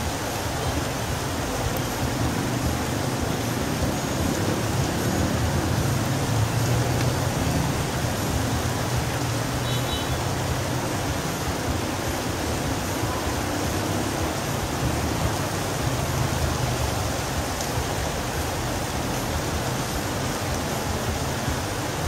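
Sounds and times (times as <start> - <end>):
distant road traffic rumble: 0.0 - 22.0
steady rain: 0.0 - 22.0.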